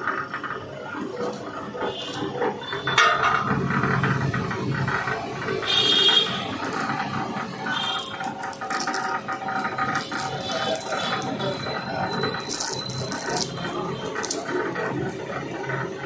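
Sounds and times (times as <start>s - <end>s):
cable strands rattling and scraping: 0.0s - 16.0s.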